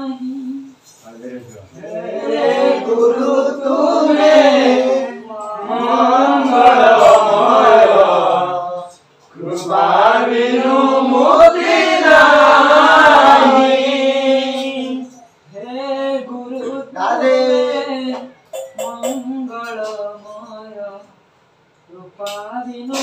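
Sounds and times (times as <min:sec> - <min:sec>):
men chanting devotional song: 0:00.0 - 0:21.2.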